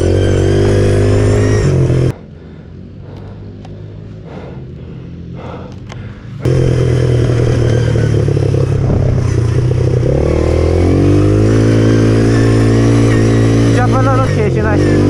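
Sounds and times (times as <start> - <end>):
pit bike engine revving: 0.0 - 2.4, 3.0 - 15.0.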